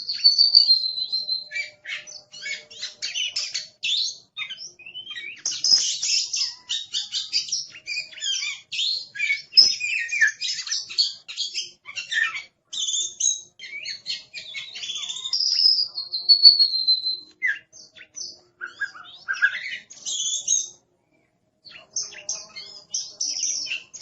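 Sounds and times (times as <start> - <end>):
bird singing chirps and whistles: 0.0 - 20.8, 21.6 - 24.0.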